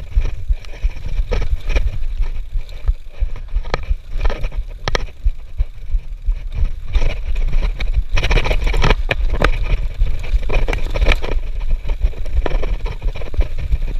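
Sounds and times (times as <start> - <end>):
mountain bike rattling: 0.0 - 13.9
wind on microphone: 0.0 - 13.9.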